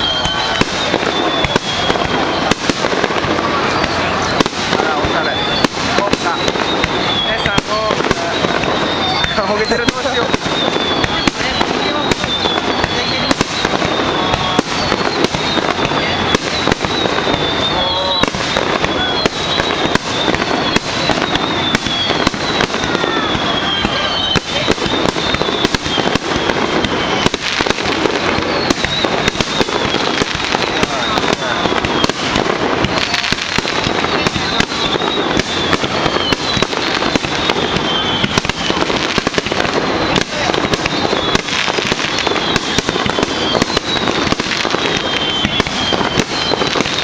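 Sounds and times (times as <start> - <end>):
fireworks bangs and crackling pops: 0.0 - 47.0
high whistle falling in pitch: 0.0 - 47.0.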